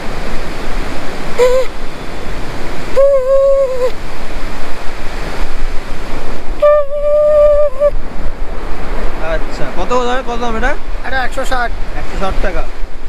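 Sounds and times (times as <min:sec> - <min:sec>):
sea waves washing: 0:00.0 - 0:13.0.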